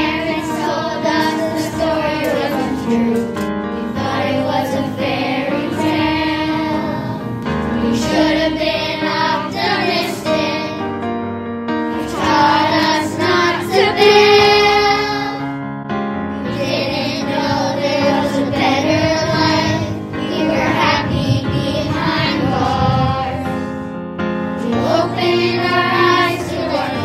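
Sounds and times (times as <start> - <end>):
children singing together: 0.0 - 10.9, 11.9 - 15.5, 16.4 - 23.8, 24.6 - 27.0
musical accompaniment: 0.0 - 27.0.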